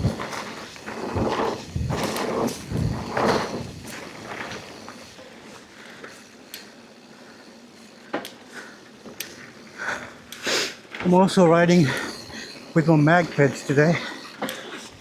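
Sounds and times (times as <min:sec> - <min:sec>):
mountain bike rattling on dirt trail: 0:00.0 - 0:15.0
sharp bike clicks: 0:00.0 - 0:15.0.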